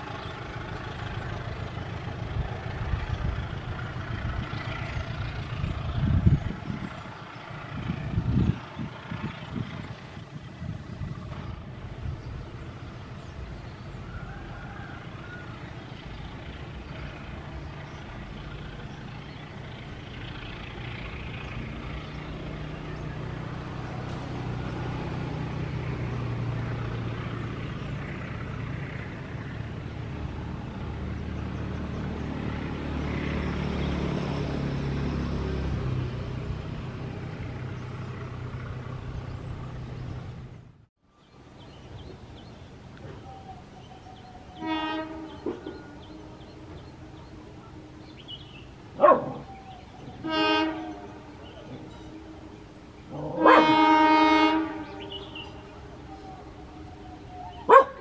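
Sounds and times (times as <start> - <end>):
diesel engine drone: 0.0 - 58.0
rail rumble: 0.0 - 58.0.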